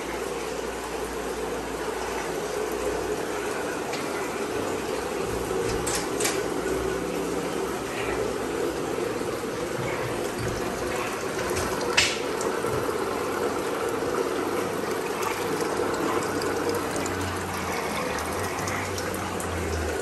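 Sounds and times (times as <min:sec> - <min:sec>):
water trickling and bubbling: 0:00.0 - 0:20.0.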